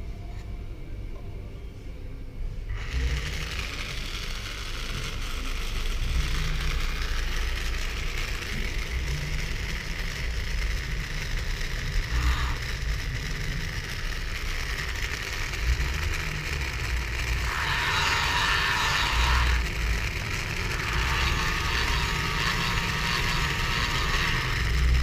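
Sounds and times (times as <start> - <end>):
toy motor whirr: 2.7 - 25.0.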